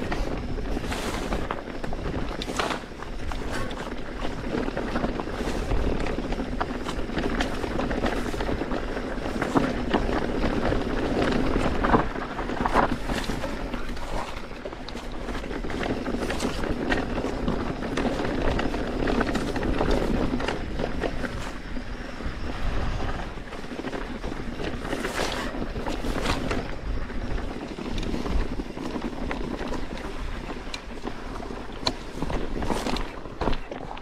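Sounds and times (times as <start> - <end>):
bike knocks and rattles: 0.0 - 34.0
tyres over loose stones: 0.0 - 34.0
wind on microphone: 0.0 - 34.0.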